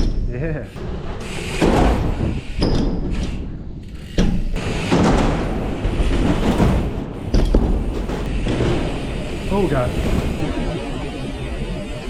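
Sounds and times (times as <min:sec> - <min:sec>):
bike tyres rolling: 0:00.6 - 0:10.4.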